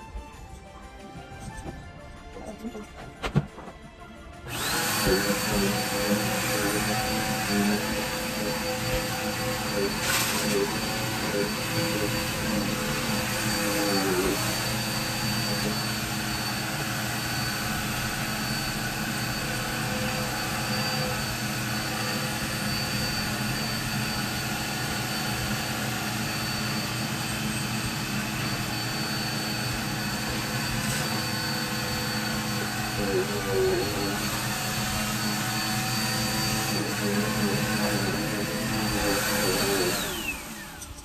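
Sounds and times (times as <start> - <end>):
vacuum cleaner running: 0.0 - 41.0.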